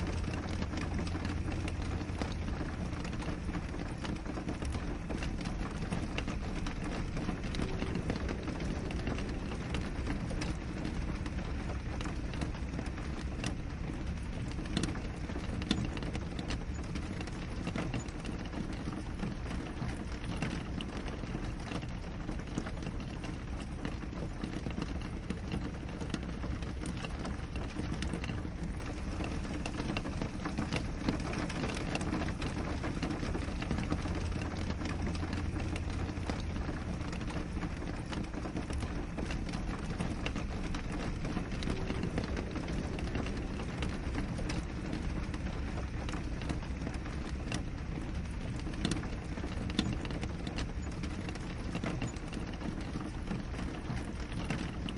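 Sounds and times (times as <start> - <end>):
rain hissing: 0.0 - 54.9
raindrops ticking on glass: 0.0 - 54.9.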